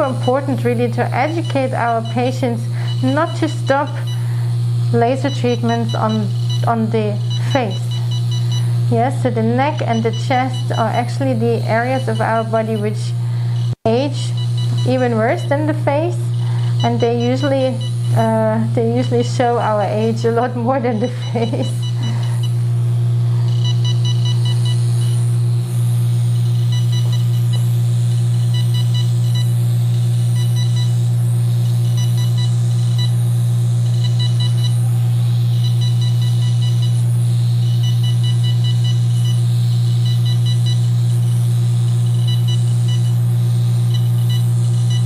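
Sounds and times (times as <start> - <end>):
rapid high beeps: 0.0 - 4.2, 5.1 - 13.0, 13.6 - 18.4, 20.6 - 22.6, 23.4 - 25.2, 26.0 - 43.2, 43.8 - 45.0
loud steady low hum: 0.0 - 45.0.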